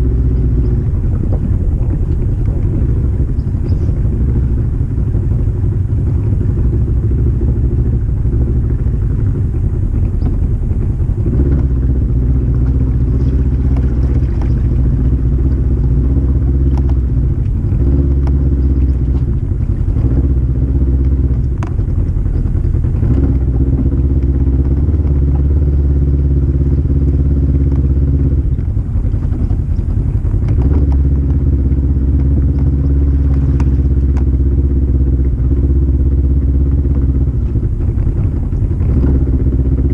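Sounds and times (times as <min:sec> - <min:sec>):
knocks and clatter over rough ground: 0:00.0 - 0:39.9
off-road vehicle engine running: 0:00.0 - 0:39.9.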